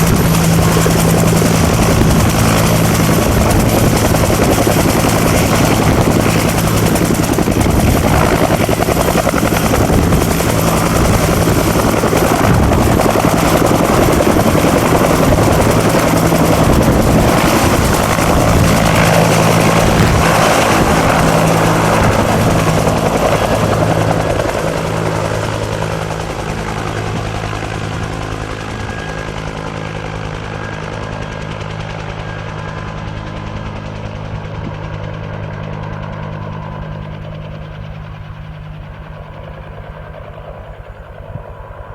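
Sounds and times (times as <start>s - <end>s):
helicopter turbine and rotor: 0.0s - 41.9s.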